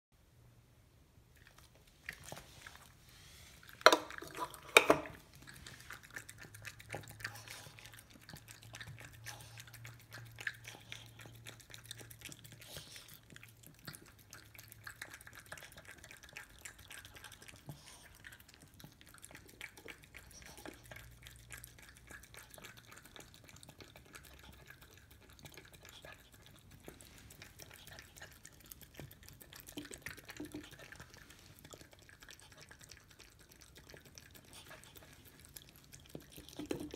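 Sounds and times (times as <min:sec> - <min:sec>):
dog licking from metal bowl: 0:01.4 - 0:36.9.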